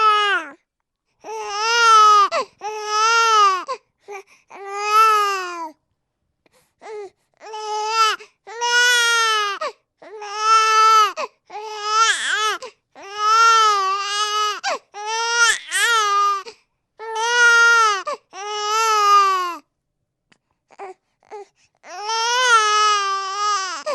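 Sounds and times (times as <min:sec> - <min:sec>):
baby crying: 0:00.0 - 0:00.6, 0:01.2 - 0:05.8, 0:06.8 - 0:19.6, 0:20.7 - 0:23.9.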